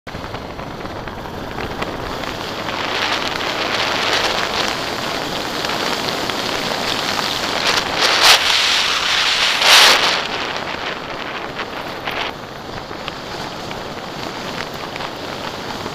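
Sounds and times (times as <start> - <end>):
motorcycle engine: 0.1 - 15.9
tyres on gravel: 0.1 - 15.9
wind rushing over microphone: 0.1 - 15.9.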